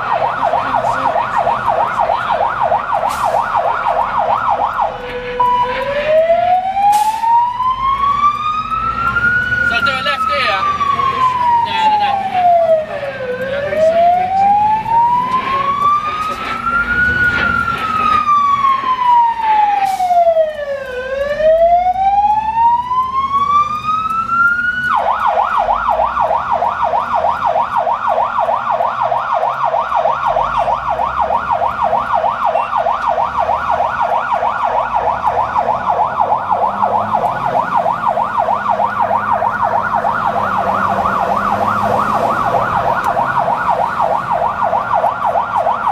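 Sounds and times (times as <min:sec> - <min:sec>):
siren fast yelp: 0:00.0 - 0:45.9
siren wailing: 0:00.0 - 0:45.9.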